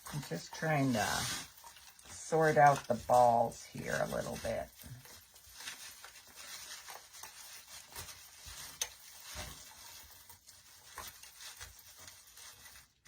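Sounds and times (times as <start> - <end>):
rustling artificial pine branches: 0.0 - 13.0.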